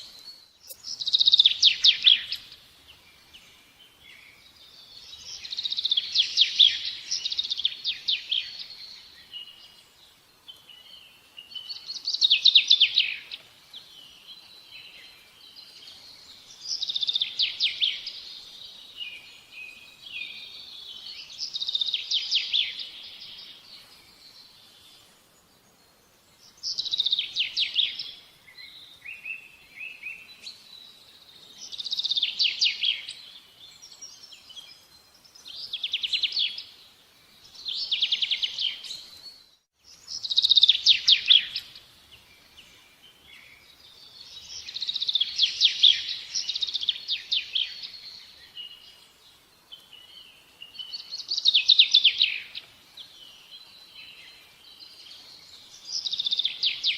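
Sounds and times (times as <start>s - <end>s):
soft bird chirps: 0.0s - 56.9s.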